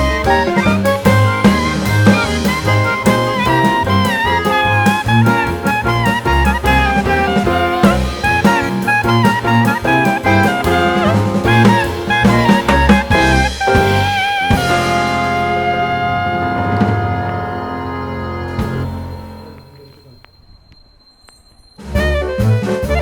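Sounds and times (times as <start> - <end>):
upbeat jazz music: 0.0 - 19.6, 21.8 - 23.0.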